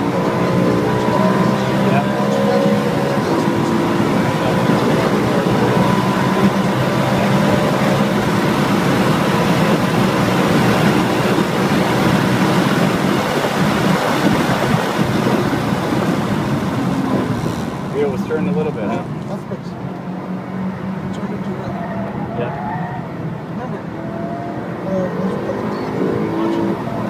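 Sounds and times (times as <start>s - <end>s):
car engine at high revs: 0.0s - 27.0s
wind and road noise: 0.0s - 27.0s.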